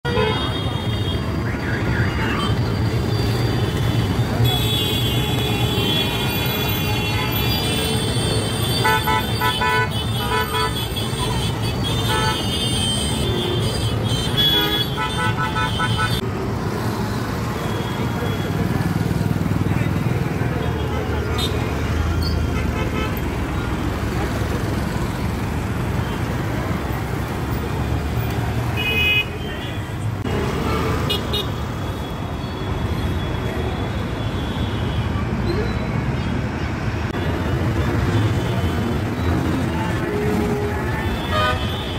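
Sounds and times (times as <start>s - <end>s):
road traffic rumble: 0.0s - 41.9s.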